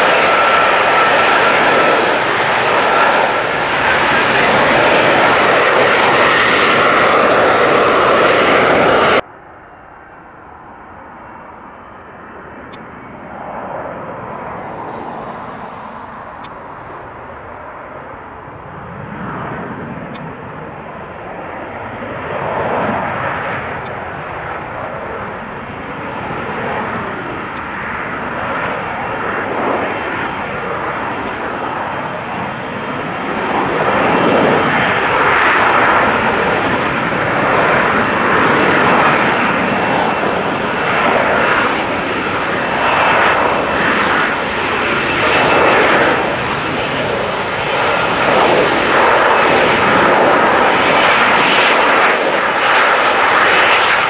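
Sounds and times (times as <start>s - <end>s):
distant jet sound: 0.0s - 54.0s
loud jet engine: 0.0s - 54.0s.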